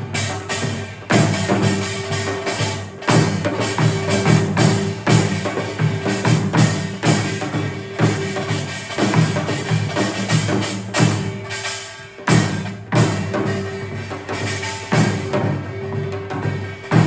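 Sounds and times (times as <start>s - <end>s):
drums and percussion beat: 0.0s - 17.0s.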